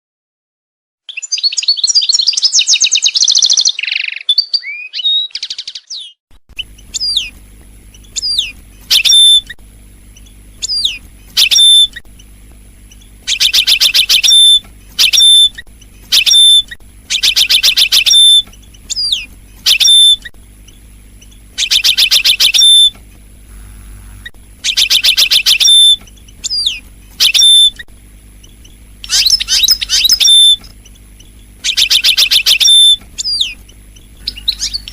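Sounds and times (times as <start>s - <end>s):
finch singing: 1.1s - 27.8s, 28.4s - 34.9s
faint low hum: 6.5s - 34.9s.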